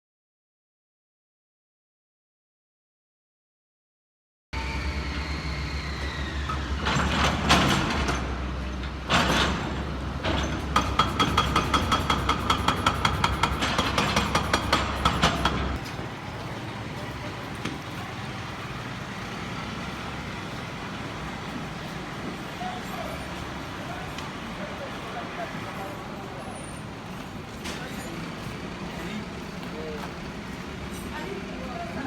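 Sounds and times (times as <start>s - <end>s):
heavy vehicle engine humming: 4.6s - 32.0s.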